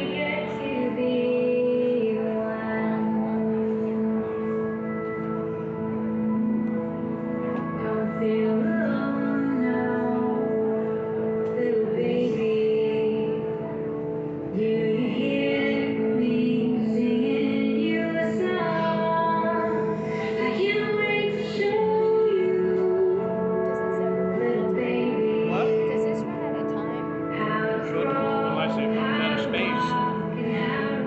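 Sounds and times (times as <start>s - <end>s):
woman singing: 0.0s - 5.0s, 7.6s - 31.0s
instrumental backing music: 0.0s - 31.0s.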